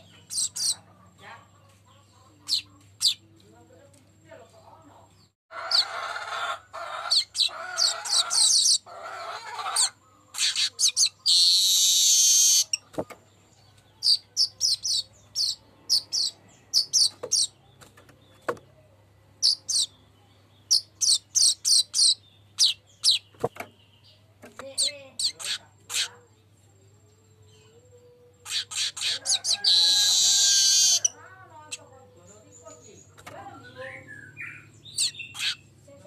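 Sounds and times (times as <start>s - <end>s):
bird chattering and chirping: 0.0s - 3.3s, 5.2s - 18.7s, 19.4s - 26.4s, 27.5s - 35.8s.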